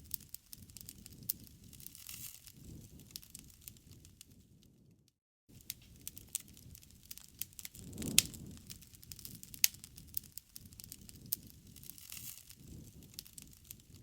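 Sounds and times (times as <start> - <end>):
low rush of flame: 0.0 - 14.0
wood fire crackling and popping: 0.0 - 14.0.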